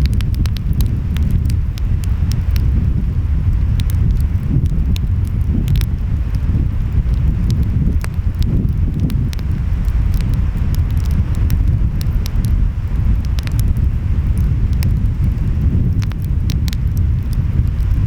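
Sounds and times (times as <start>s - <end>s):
wind: 0.0s - 18.0s
wood fire crackling: 0.0s - 18.0s.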